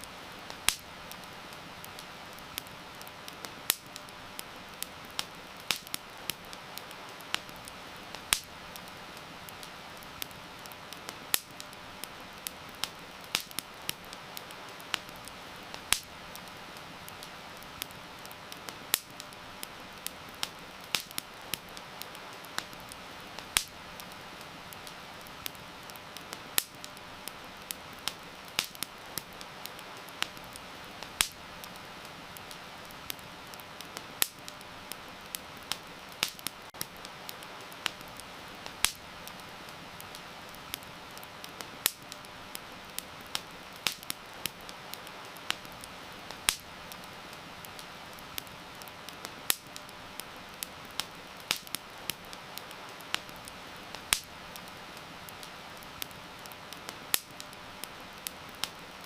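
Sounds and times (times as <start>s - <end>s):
campfire crackling and popping: 0.0s - 59.0s
heavy rain hissing: 0.0s - 59.0s.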